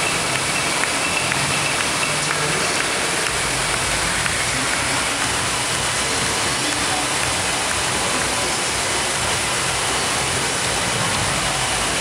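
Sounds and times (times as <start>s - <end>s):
water splashing and spraying: 0.0s - 12.0s.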